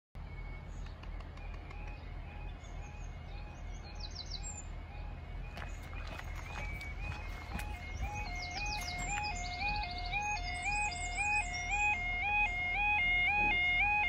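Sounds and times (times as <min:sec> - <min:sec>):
birds chirping: 0:00.2 - 0:14.0
level crossing alarm: 0:01.4 - 0:14.0.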